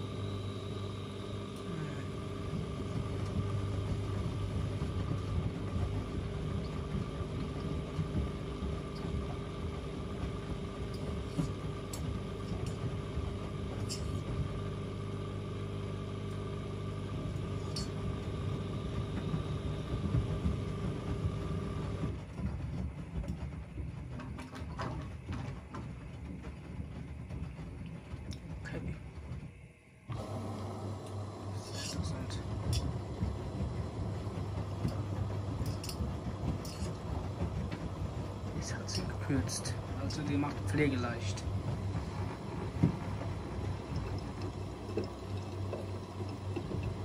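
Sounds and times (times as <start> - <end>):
washing machines humming: 0.0 - 47.0
quiet rumble: 0.2 - 47.0.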